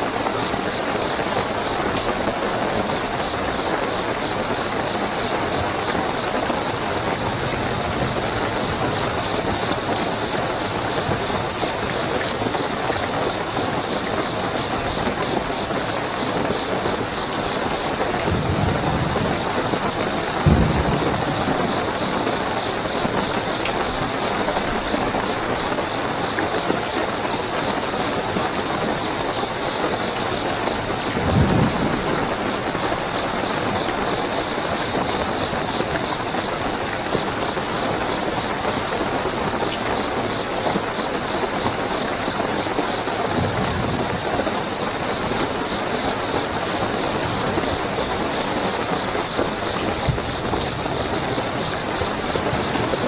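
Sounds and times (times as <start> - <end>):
crickets chirping: 0.0 - 53.0
heavy rainfall: 0.0 - 53.0.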